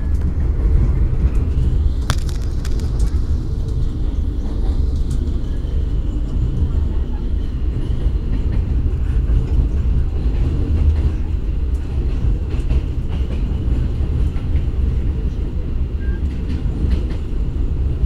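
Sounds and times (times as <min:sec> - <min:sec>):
train interior low rumble: 0:00.0 - 0:18.0.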